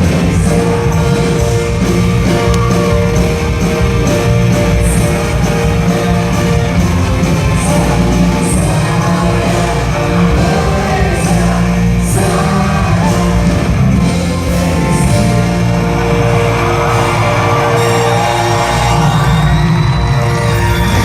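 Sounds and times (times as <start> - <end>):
live rock band with singer: 0.0 - 21.0.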